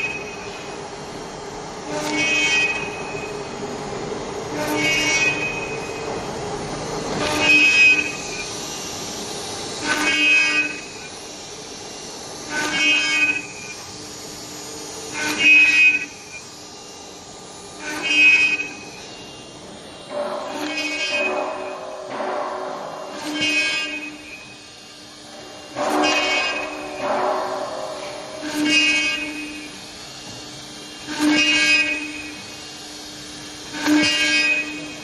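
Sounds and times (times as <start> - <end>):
router spindle hum: 0.0 - 35.0.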